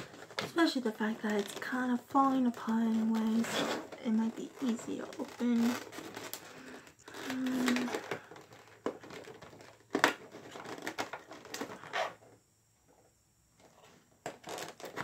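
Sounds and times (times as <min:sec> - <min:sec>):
plastic packaging crinkling: 0:00.0 - 0:12.3, 0:13.6 - 0:15.0.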